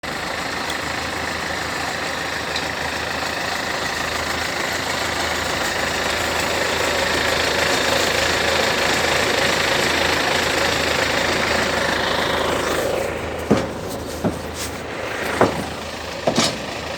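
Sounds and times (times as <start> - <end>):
farm machine engine running: 0.0 - 16.9.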